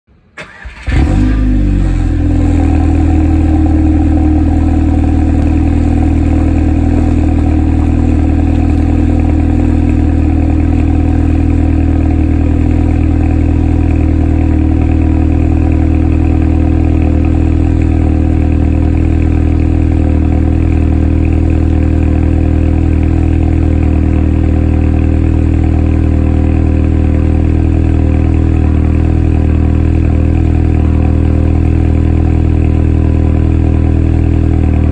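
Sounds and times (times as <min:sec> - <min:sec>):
car engine cranking and starting: 0:00.4 - 0:34.9
loud engine idle: 0:00.5 - 0:34.9.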